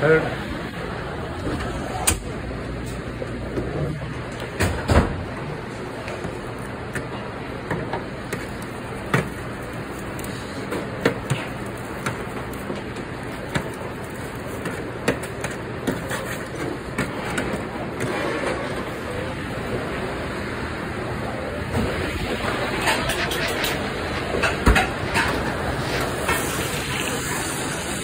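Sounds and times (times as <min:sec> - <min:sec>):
kitchen equipment hum and hiss: 0:00.0 - 0:28.0.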